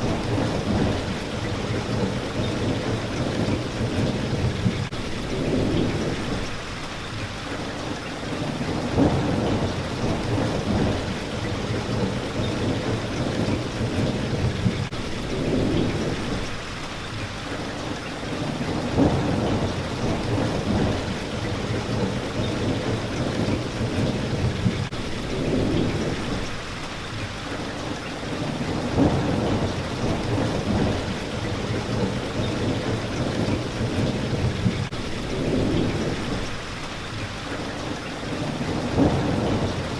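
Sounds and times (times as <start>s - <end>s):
thunder rumbling: 0.0s - 6.6s, 8.3s - 16.6s, 18.3s - 26.6s, 28.3s - 36.8s, 38.2s - 39.9s
rain pattering on a window: 0.0s - 39.9s.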